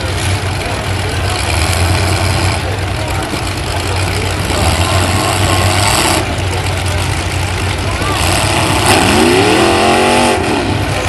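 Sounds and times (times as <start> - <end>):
truck engines droning at low revs: 0.0 - 11.0.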